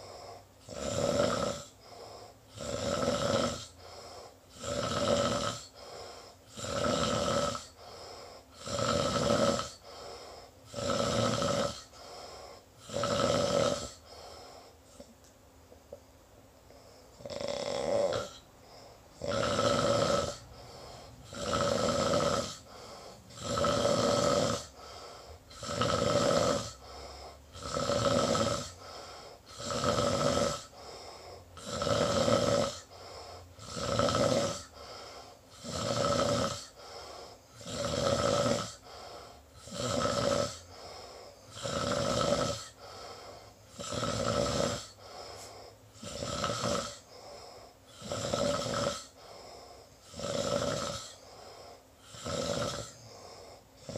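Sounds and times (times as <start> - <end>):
person snoring: 0.0 - 15.2, 16.7 - 53.9.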